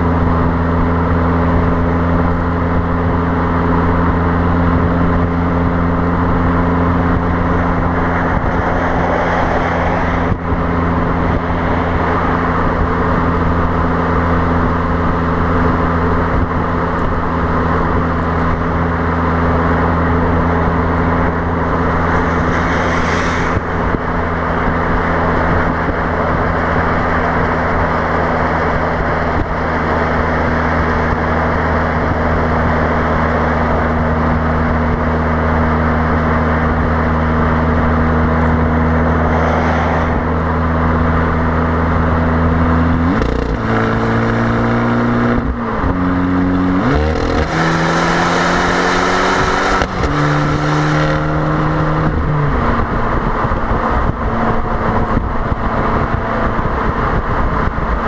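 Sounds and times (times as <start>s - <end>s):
car exhaust droning: 0.0s - 58.0s
wind noise on microphone: 0.0s - 58.0s.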